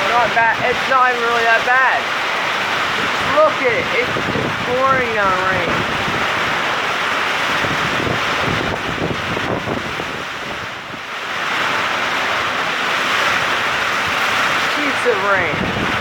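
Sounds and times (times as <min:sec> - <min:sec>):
heavy rain pouring: 0:00.0 - 0:16.0
wind buffeting microphone: 0:00.0 - 0:16.0.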